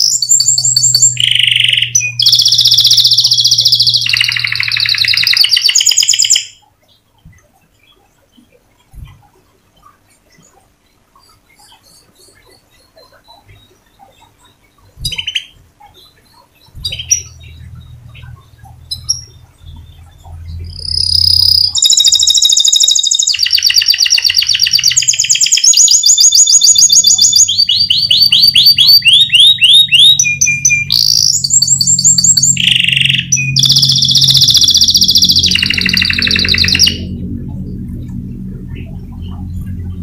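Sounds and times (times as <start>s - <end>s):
canary singing trills: 0.0s - 40.0s.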